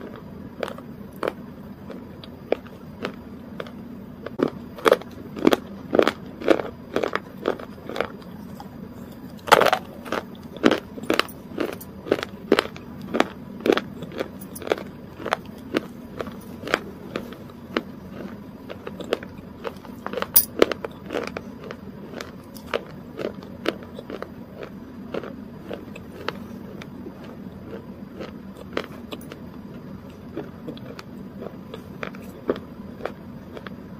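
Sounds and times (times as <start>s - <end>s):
crunchy chewing: 0.0s - 33.9s.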